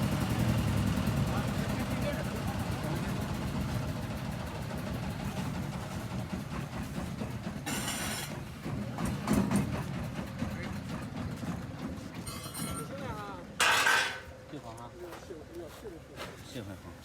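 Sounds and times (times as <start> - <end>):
engine rumble: 0.0 - 14.6.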